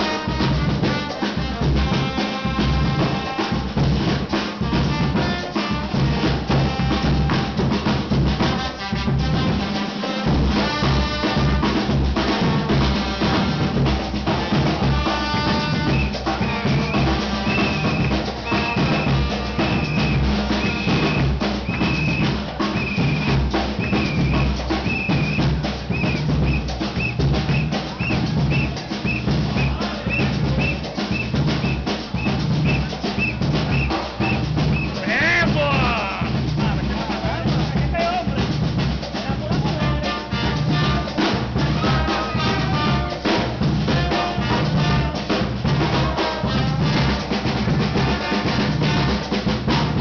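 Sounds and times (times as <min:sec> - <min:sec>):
samba drums and percussion: 0:00.0 - 0:50.0.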